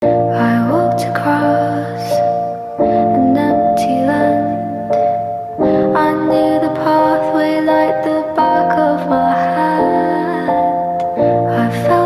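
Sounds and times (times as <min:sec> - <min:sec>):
slow melody with sliding notes: 0:00.0 - 0:12.0.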